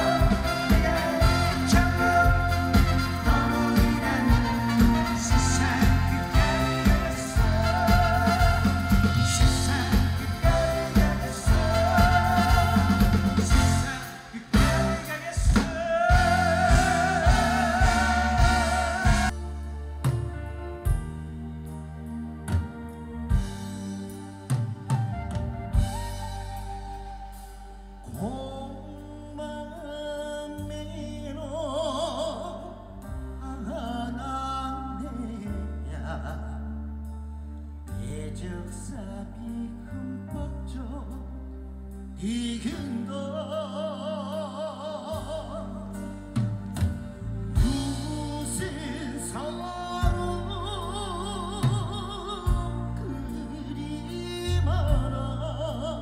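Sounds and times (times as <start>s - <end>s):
live pop band playing: 0.0s - 56.0s.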